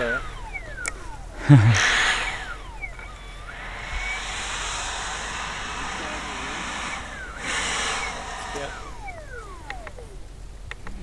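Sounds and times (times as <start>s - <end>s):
model jet fan whoosh: 0.0s - 10.2s.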